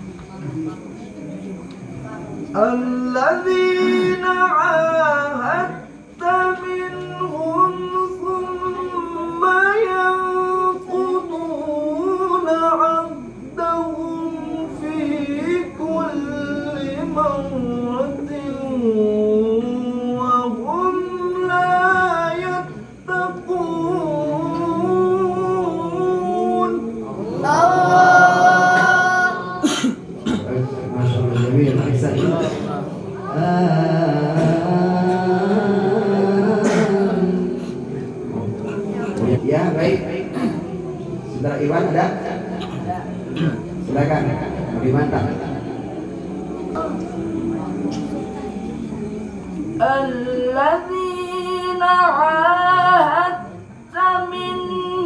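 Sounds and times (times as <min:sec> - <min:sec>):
man reciting melodically: 0:02.5 - 0:55.0.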